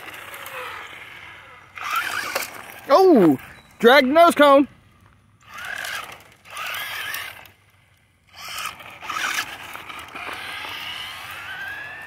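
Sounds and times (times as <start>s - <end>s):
remote-control car motor whining: 0.0s - 3.7s, 5.4s - 12.0s.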